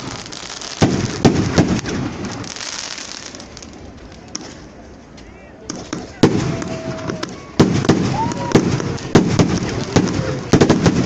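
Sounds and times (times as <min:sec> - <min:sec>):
firework whistling: 0:00.0 - 0:04.2, 0:06.2 - 0:11.0
fireworks bangs and crackles: 0:00.0 - 0:11.0.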